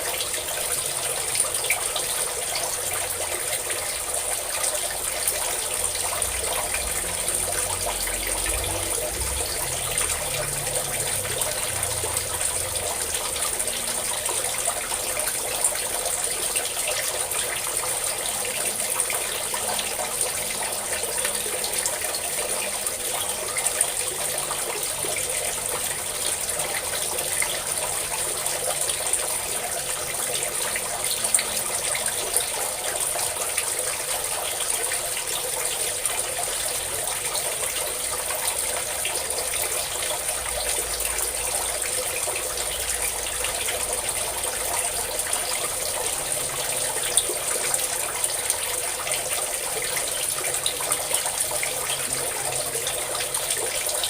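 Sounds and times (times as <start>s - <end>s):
water pouring in a stream: 0.0s - 54.0s.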